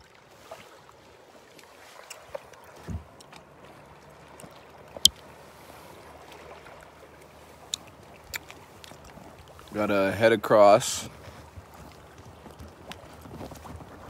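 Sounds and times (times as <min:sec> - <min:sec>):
water lapping against kayak: 0:00.0 - 0:14.0.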